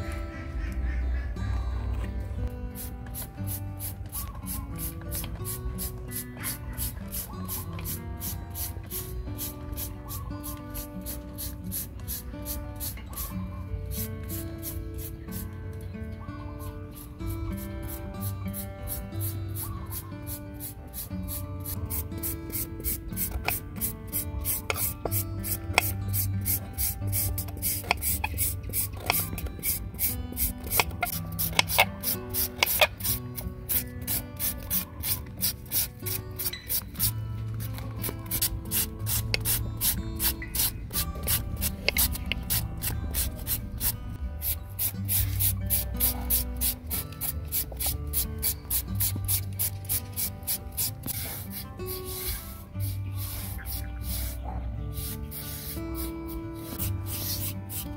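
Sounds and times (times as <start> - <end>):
background music with steady beat: 0.0 - 57.9.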